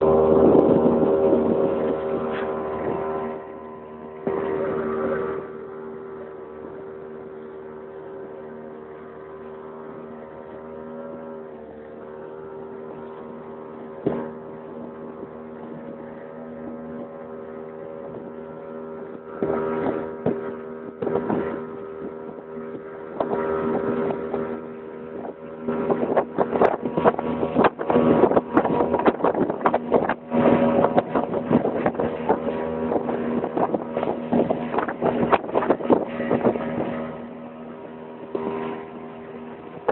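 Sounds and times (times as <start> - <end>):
bursts of wind and water: 0.0 - 39.9
motorboat engine running: 0.0 - 39.9.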